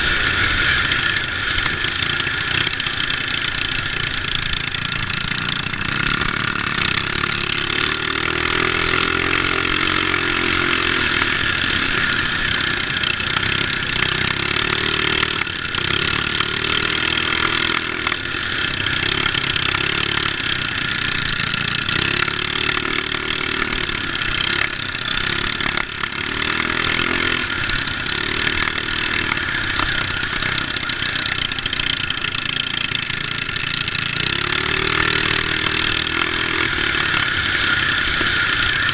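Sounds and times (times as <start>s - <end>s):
mini bike engines racing: 0.0s - 38.9s.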